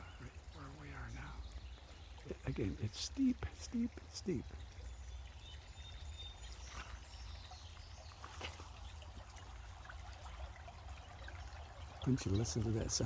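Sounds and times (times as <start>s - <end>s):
water running and trickling: 0.0s - 13.0s.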